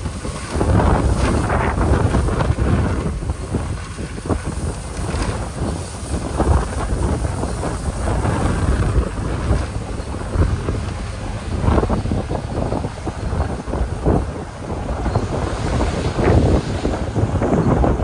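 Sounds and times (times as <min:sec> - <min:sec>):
truck engine running under load: 0:00.0 - 0:18.0
wind rumbling on microphone: 0:00.0 - 0:18.0.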